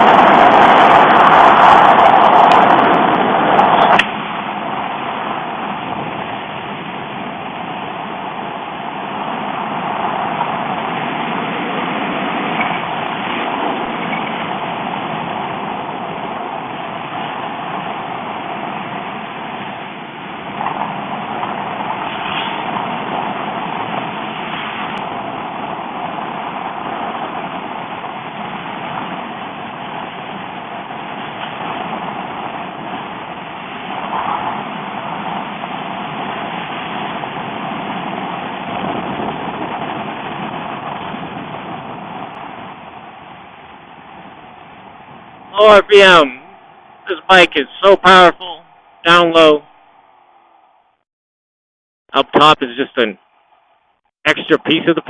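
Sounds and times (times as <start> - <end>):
wind: 0.0 - 51.1, 52.1 - 55.0.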